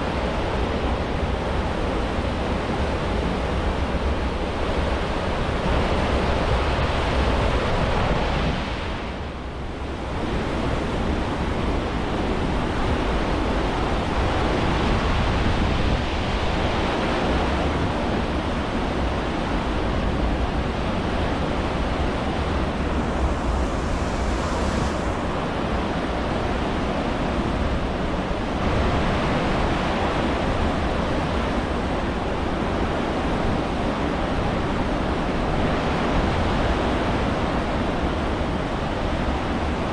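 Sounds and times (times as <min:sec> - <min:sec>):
ship wake rushing and hissing: 0:00.0 - 0:39.9
wind buffeting microphone: 0:00.0 - 0:39.9.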